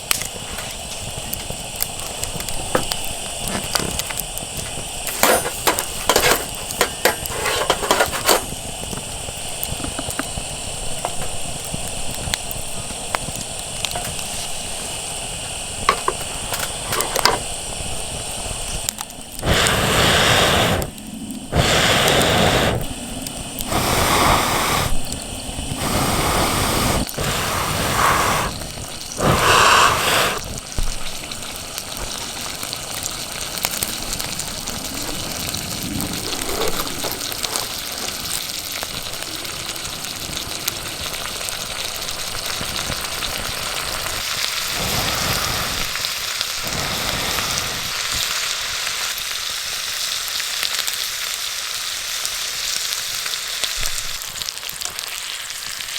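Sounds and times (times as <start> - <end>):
food sizzling in a pan: 0.0 - 55.9.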